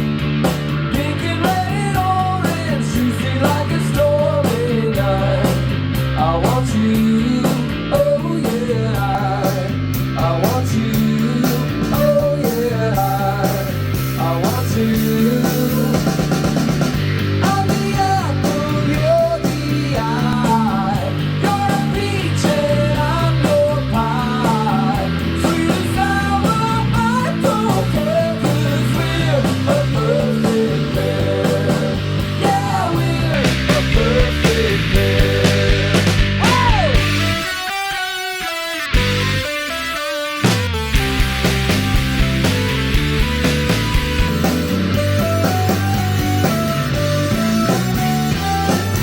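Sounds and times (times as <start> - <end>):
rock song with guitar and drums: 0.0 - 49.0.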